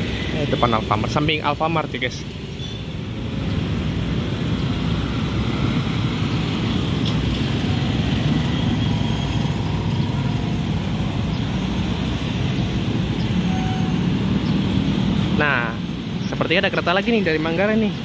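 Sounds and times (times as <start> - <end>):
motorcycles and cars passing: 0.0 - 18.0.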